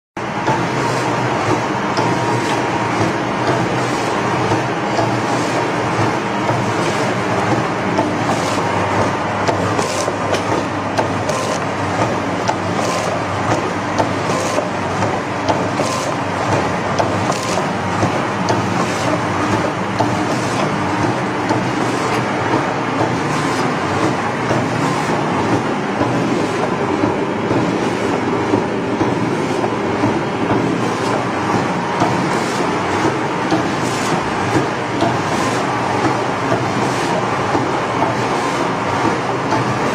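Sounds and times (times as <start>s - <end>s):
packing machine running: 0.2s - 39.9s.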